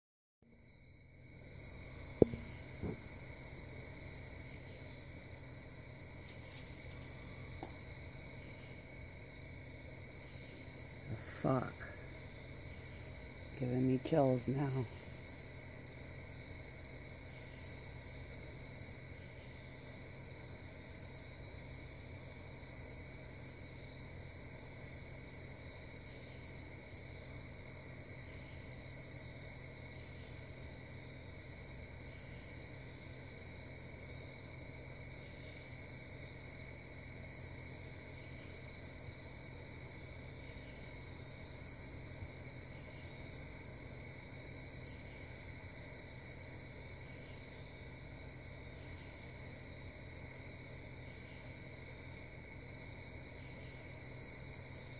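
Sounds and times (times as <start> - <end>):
crickets trilling: 0.4 - 54.9.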